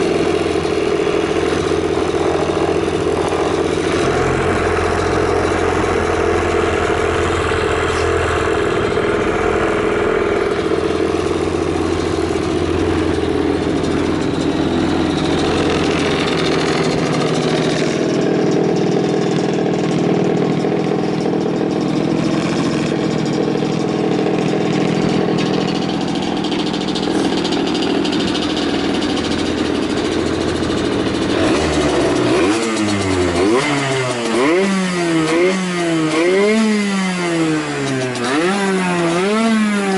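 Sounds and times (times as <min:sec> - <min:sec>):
two-stroke engine idling and revving: 0:00.0 - 0:39.9.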